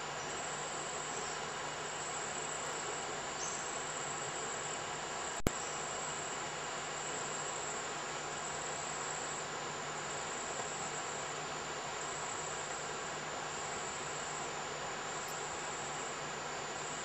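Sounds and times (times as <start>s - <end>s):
insects chorus whining: 0.0s - 17.0s.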